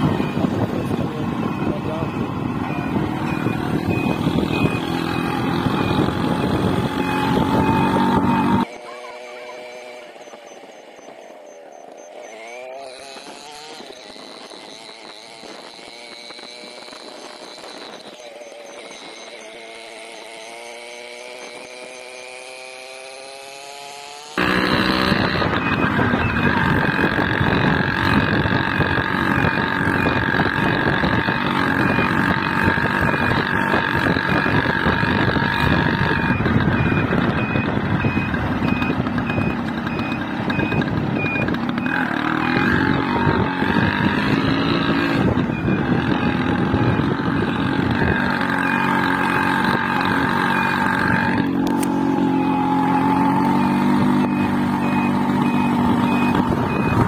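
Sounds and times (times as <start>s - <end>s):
wind noise: 0.0s - 8.7s, 12.3s - 19.8s, 24.4s - 52.3s, 53.3s - 57.0s
vehicle engine accelerating: 0.0s - 57.0s.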